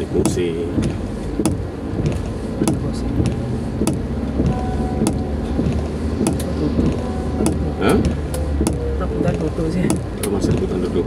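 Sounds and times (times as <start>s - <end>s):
car engine and road hum: 0.0s - 11.0s
windshield wipers sweeping and clicking: 0.0s - 11.0s.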